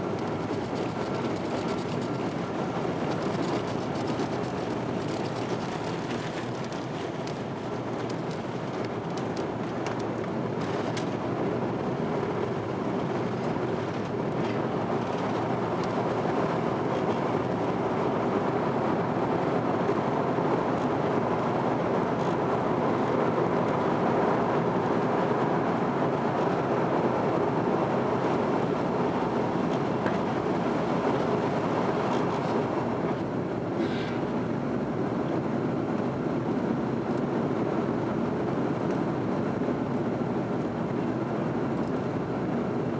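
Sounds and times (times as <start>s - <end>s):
airliner cabin engine noise: 0.0s - 42.9s.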